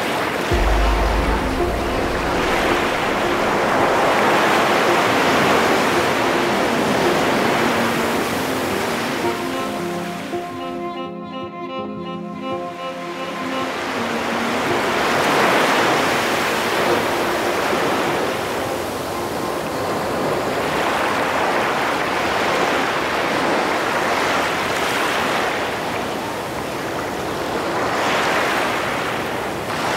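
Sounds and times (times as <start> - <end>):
sea surf on a beach: 0.0 - 10.8, 12.6 - 29.9.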